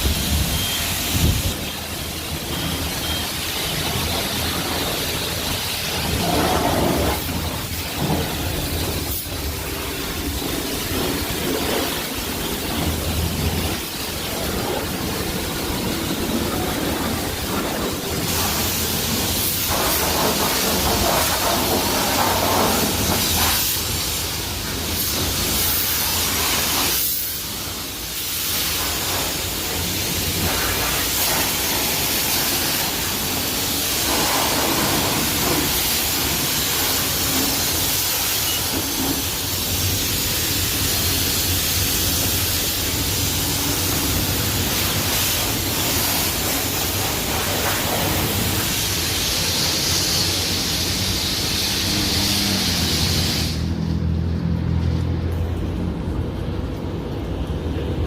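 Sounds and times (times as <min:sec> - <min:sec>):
high-pressure water spray hissing: 0:00.0 - 0:55.3.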